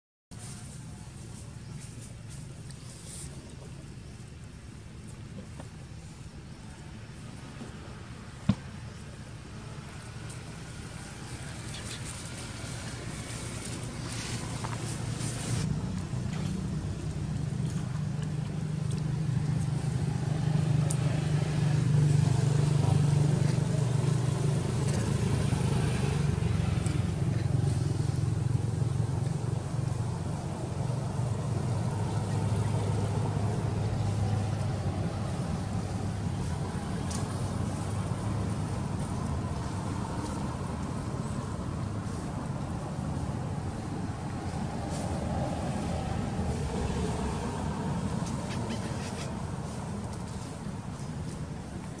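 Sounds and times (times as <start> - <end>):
low motor rumble: 0.6 - 52.0.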